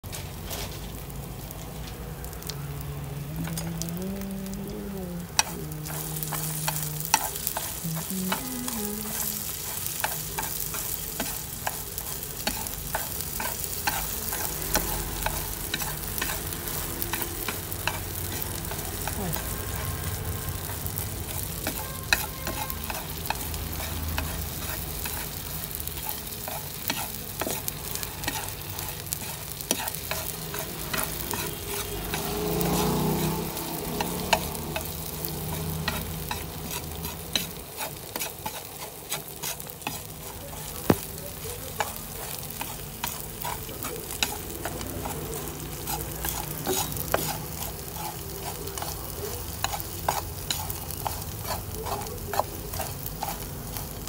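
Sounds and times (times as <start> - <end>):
fish sizzling in oil: 0.0 - 54.0.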